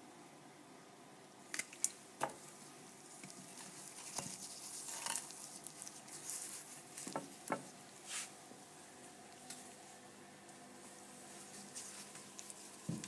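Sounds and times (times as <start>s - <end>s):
faint machine hum: 0.0s - 13.0s
plastic gloves crinkling: 1.6s - 10.0s, 10.7s - 13.0s.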